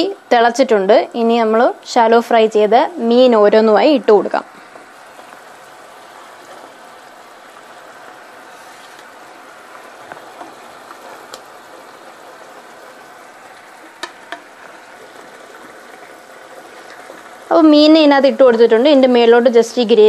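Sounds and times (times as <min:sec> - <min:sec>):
gravy bubbling in a pan: 0:03.1 - 0:19.3.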